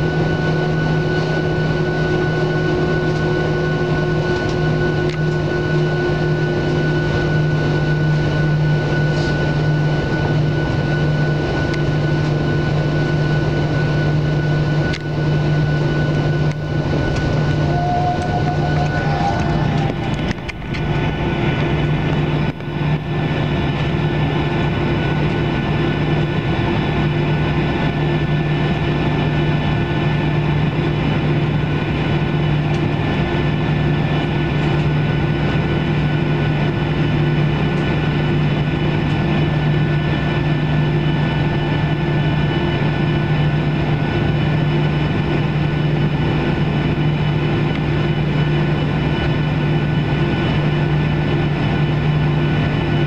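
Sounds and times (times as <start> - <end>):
jet engines droning in cabin: 0.0 - 53.0.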